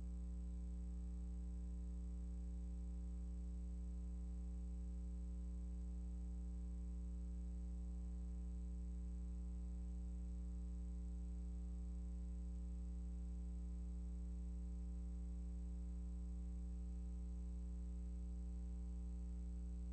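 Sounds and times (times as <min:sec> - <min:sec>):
faint high-pitched whine: 0:00.0 - 0:19.9.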